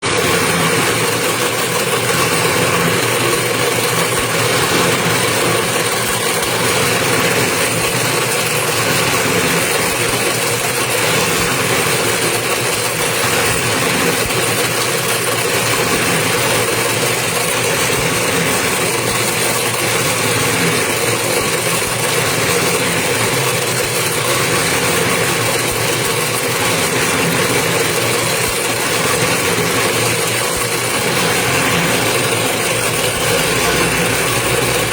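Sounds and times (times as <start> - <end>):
winding machine motor hum: 0.0 - 34.9.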